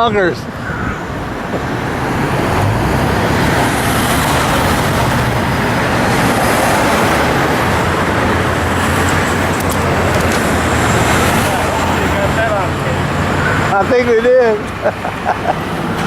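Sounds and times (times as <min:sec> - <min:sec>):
heavy road traffic: 0:00.0 - 0:16.0.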